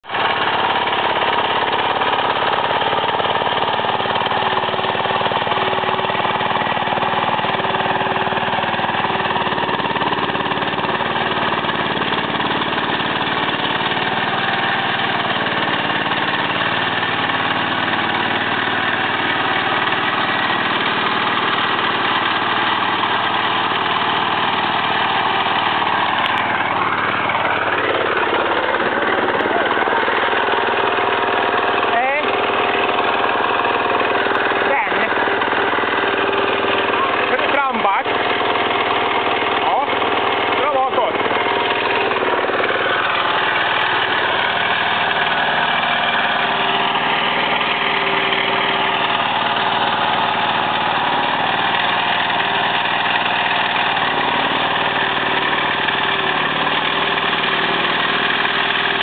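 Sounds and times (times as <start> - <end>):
small buggy engine running: 0.0 - 59.0.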